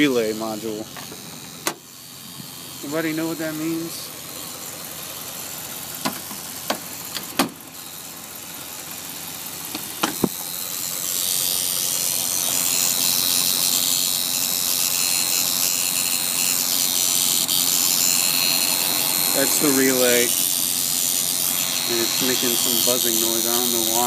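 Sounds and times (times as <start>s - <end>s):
electrical relay buzzing: 0.0s - 24.0s
truck engine running: 0.0s - 24.0s.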